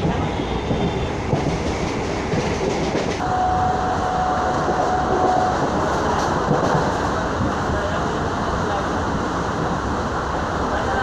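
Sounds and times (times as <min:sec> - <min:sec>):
train wheels rumbling and rattling: 0:00.0 - 0:03.3, 0:04.4 - 0:11.0.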